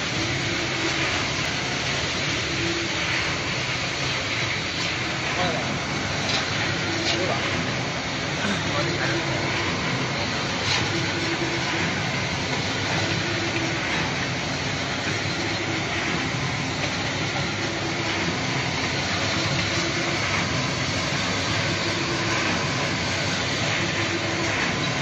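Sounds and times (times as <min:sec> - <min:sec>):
cutting machine running: 0:00.0 - 0:25.0.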